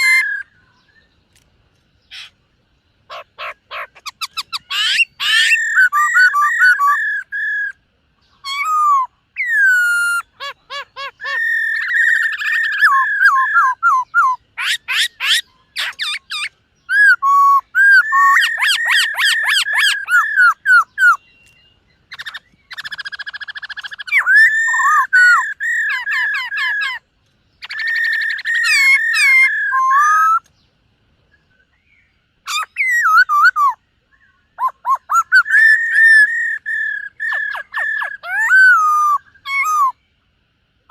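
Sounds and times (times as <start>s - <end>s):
bird singing whistled phrases: 0.0s - 1.2s, 3.1s - 27.0s, 27.6s - 30.5s, 31.3s - 40.0s.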